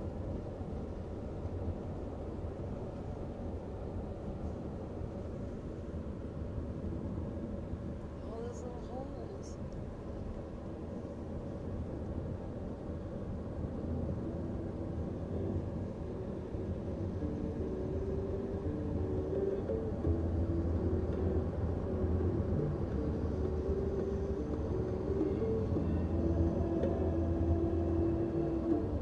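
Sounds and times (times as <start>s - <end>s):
vehicle rumble from inside cabin: 0.0s - 29.0s.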